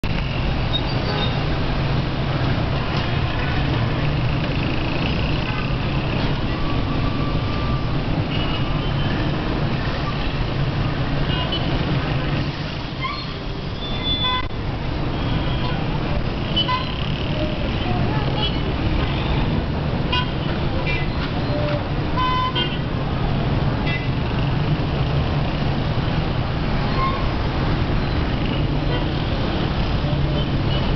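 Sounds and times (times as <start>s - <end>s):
traffic engines rumbling: 0.0s - 30.9s.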